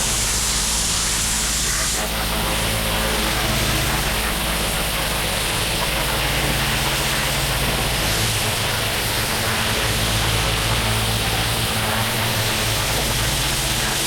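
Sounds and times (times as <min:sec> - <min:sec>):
high-pressure water spray hissing: 0:00.0 - 0:14.0
pressure washer engine hum: 0:00.0 - 0:14.0.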